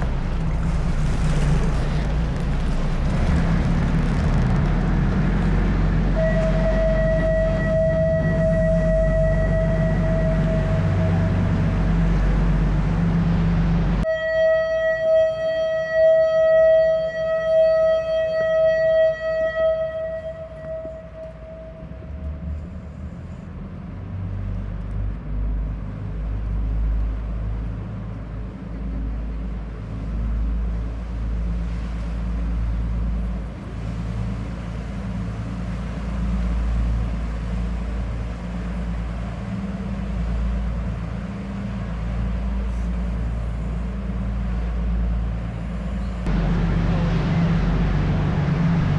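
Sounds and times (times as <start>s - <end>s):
boat engine rumbling: 0.0s - 48.9s
boat horn: 0.0s - 48.9s.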